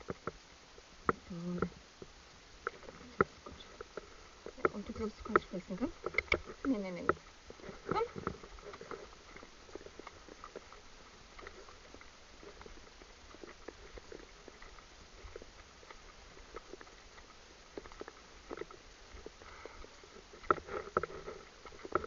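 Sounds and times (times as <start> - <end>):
hooves on gravel: 1.2 - 22.0.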